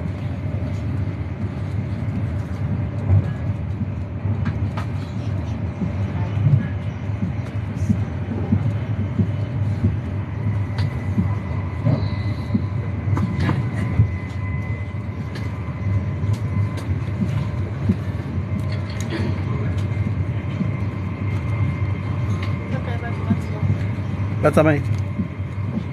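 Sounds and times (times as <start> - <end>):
train cabin rumble: 0.0 - 25.9.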